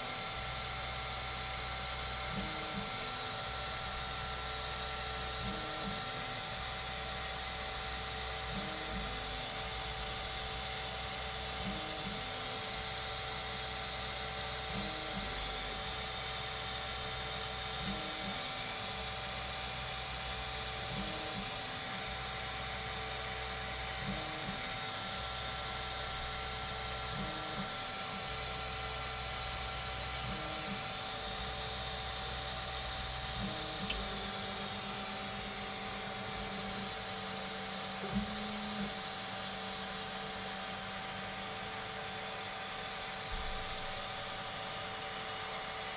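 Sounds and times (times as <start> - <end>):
three d printer hum and fan whine: 0.0 - 45.9.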